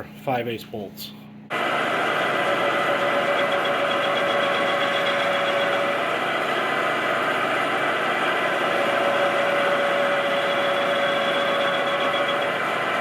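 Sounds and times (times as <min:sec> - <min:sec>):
power grinder whining: 0:01.5 - 0:13.0.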